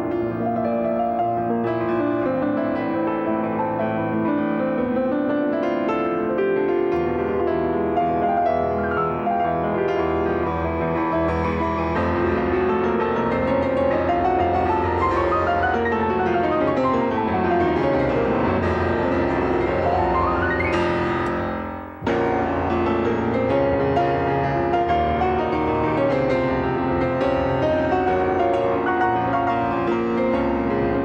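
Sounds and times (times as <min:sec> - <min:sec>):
piano music with flowing runs: 0:00.0 - 0:31.0.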